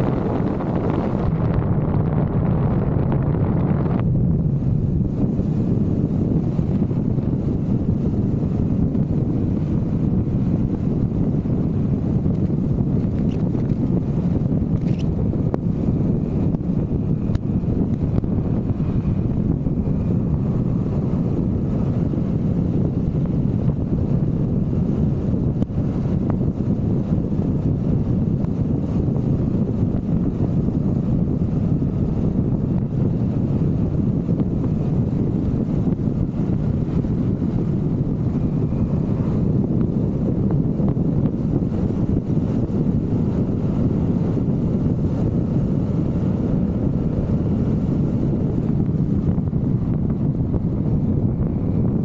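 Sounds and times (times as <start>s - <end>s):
scooter engine and road noise: 0.0s - 52.0s
wind buffeting microphone: 0.0s - 52.0s.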